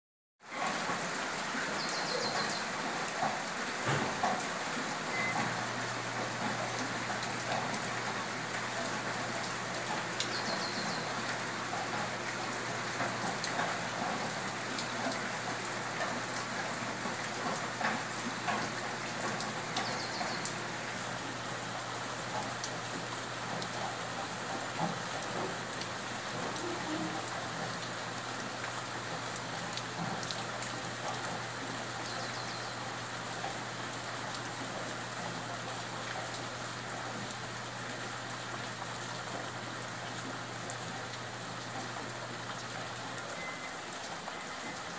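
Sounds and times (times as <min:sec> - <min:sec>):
rain falling on foliage: 0:00.4 - 0:44.9
raindrop ticks: 0:00.6 - 0:44.9.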